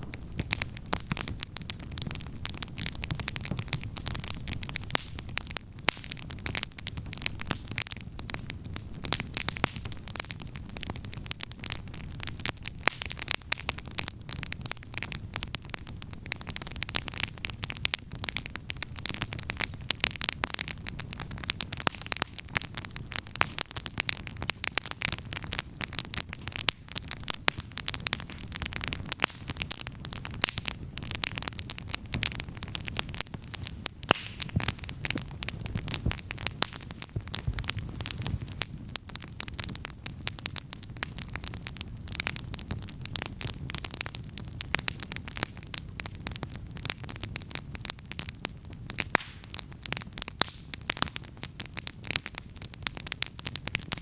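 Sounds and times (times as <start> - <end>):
low rush of flame: 0.0 - 47.5
campfire crackling: 0.0 - 54.0.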